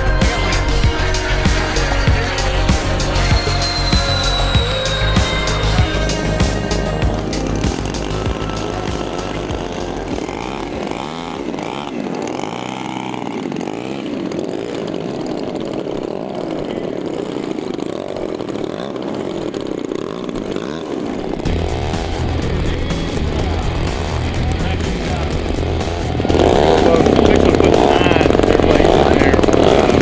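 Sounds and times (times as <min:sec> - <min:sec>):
model plane engines revving: 0:00.0 - 0:30.0.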